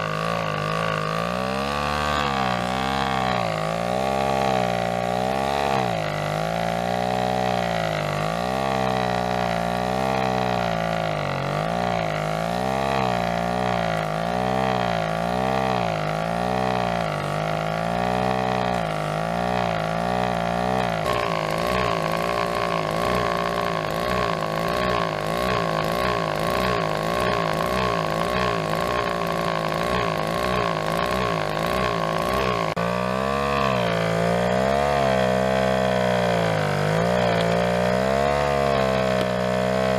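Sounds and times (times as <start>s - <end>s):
small two-stroke engine surging: 0.0s - 39.9s.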